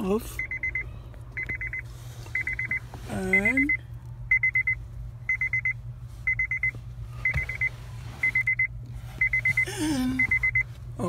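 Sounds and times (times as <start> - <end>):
low steady hum: 0.0 - 11.0
car warning chime beeping: 0.2 - 10.8.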